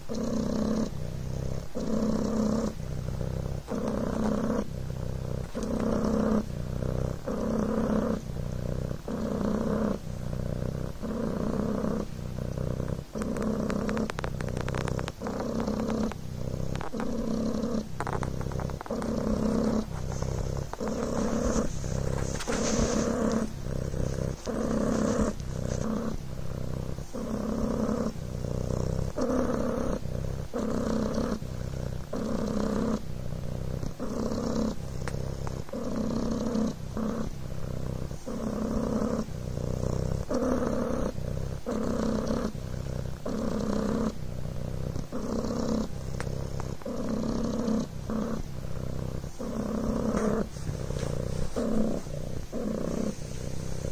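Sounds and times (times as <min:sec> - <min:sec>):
kitten purring: 0:00.0 - 0:53.9.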